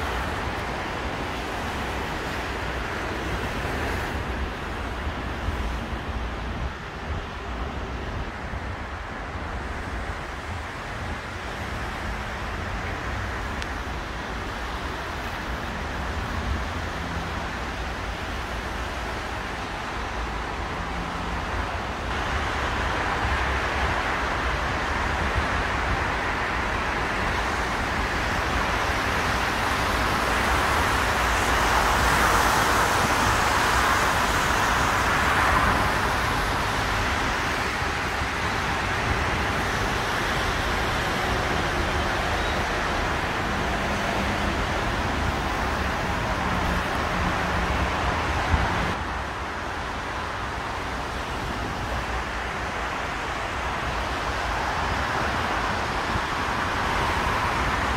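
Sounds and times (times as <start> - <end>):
highway traffic on wet roads: 0.0 - 57.9.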